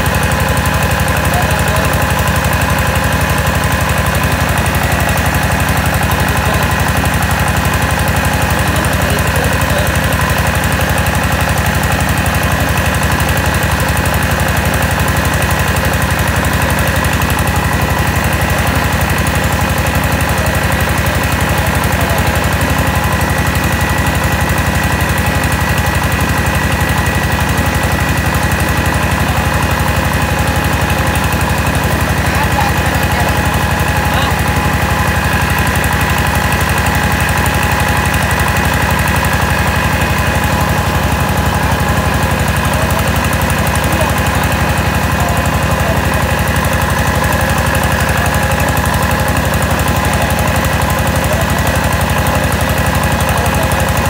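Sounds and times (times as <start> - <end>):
rice huller engine running: 0.0 - 54.0.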